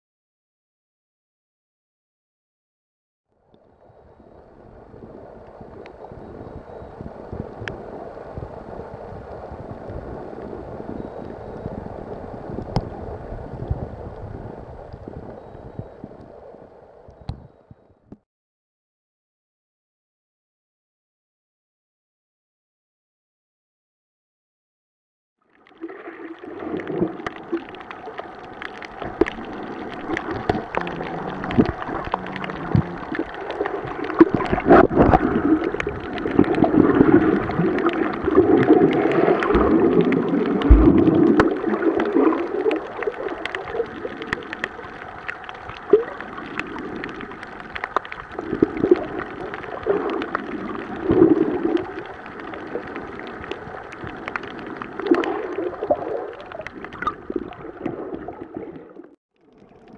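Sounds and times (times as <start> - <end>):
muffled underwater gurgling water: 3.6 - 18.0, 25.7 - 59.9.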